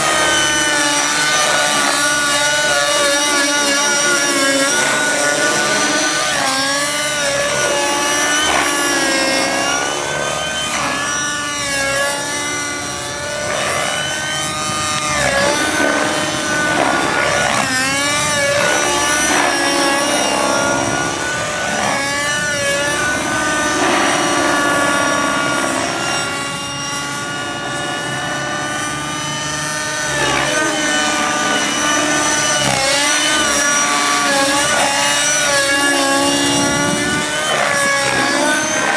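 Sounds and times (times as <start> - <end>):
model helicopter engine and rotor: 0.0 - 38.9.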